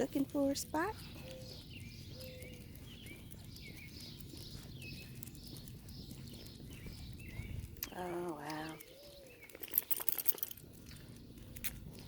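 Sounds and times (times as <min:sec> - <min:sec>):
bird chirping: 0:00.0 - 0:10.2.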